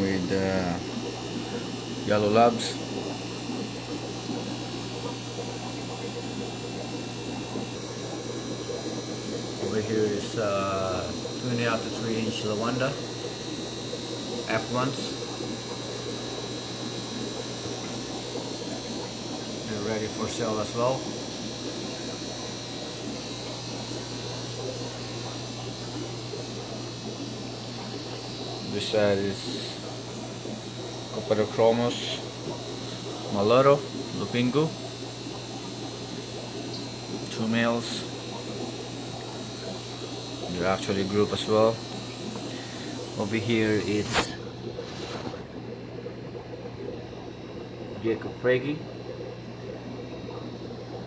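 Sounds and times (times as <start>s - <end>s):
aquarium air pump humming: 0.0s - 51.0s
water bubbling in filters: 0.0s - 51.0s.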